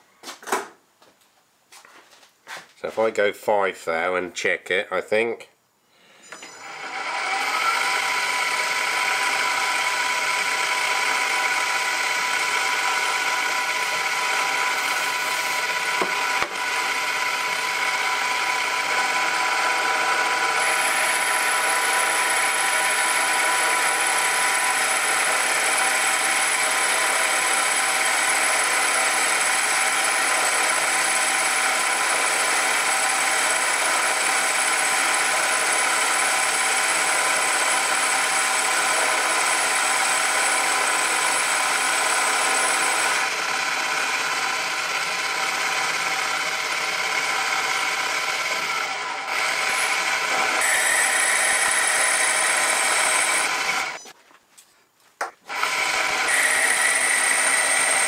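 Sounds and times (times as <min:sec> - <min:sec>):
lathe motor and gear whine: 0:06.3 - 0:54.0, 0:55.5 - 0:58.0.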